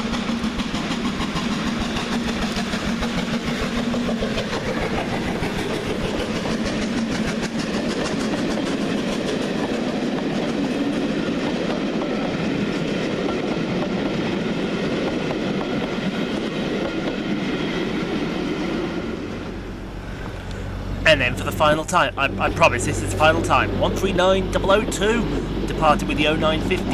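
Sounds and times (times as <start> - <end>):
train wheels clicking over rail joints: 0.0 - 21.9
train rumble: 0.0 - 26.9.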